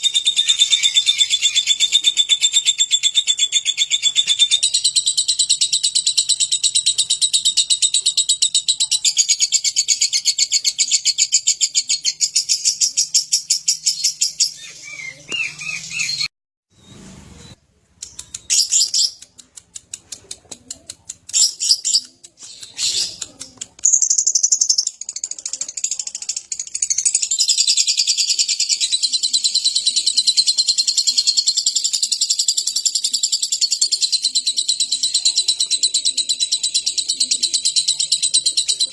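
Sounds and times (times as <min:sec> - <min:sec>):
lovebird chattering trill: 0:00.0 - 0:16.3, 0:21.2 - 0:38.9.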